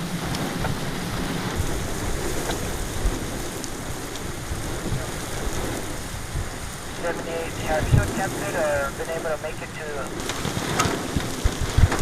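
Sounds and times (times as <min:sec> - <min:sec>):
heavy rainstorm: 0:00.0 - 0:12.0
wind buffeting microphone: 0:00.0 - 0:12.0.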